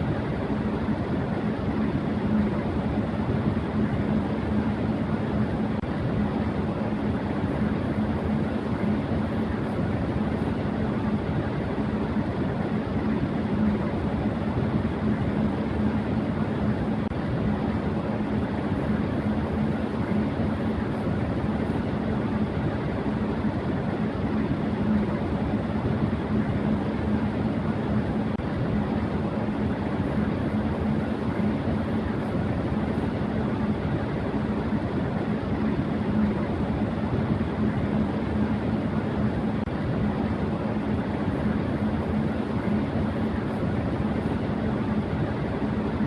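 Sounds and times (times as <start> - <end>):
electric fan running: 0.0 - 46.0.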